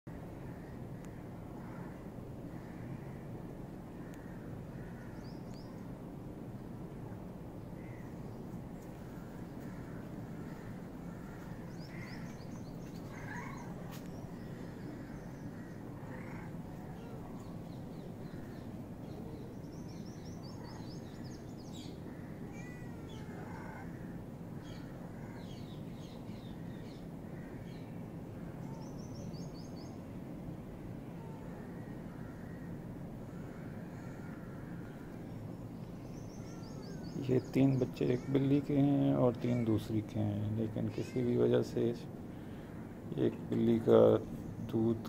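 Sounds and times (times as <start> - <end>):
birds calling: 0.1 - 5.9, 7.6 - 30.4, 31.1 - 45.0
low background rumble: 0.1 - 45.0.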